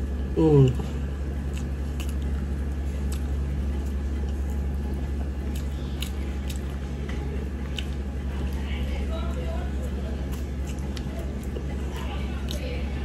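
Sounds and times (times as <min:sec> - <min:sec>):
person chewing food: 0:00.0 - 0:08.6, 0:09.3 - 0:13.0
steady low hum: 0:00.0 - 0:13.0.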